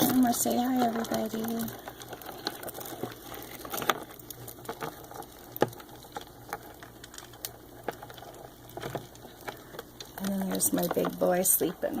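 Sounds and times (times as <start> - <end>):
crab shells clicking and tapping: 0.0 - 12.0.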